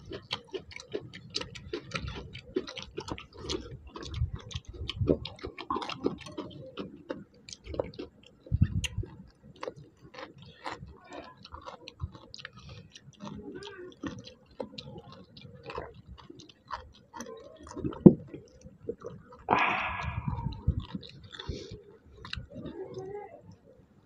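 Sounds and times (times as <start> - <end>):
wet chewing and mouth clicks: 0.0 - 23.7.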